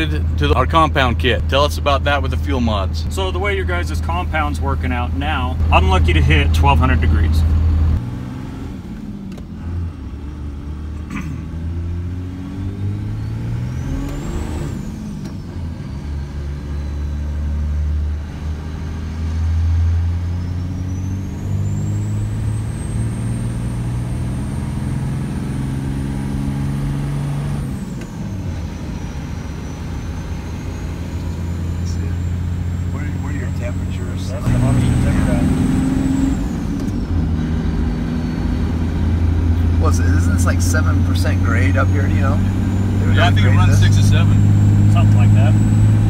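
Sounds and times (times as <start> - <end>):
diesel engine droning under load: 0.0 - 46.0.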